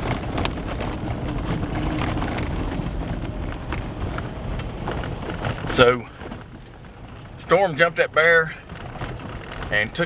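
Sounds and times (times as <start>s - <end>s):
vehicle engine and tyre rumble: 0.0s - 10.0s.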